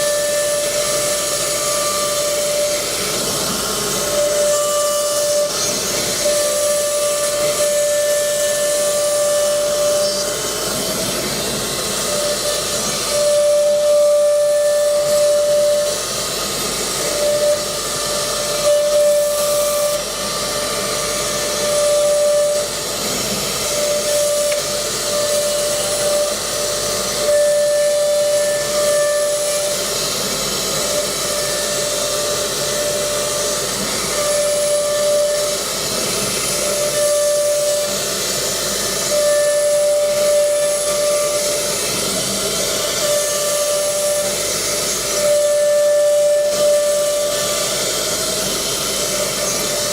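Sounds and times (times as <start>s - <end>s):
cnc router high whine: 0.0s - 49.9s.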